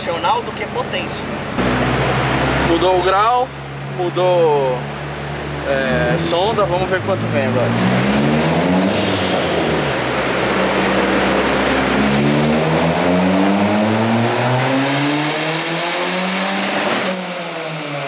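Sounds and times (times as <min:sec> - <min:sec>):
turbocharged car engine at full throttle: 0:00.0 - 0:18.0.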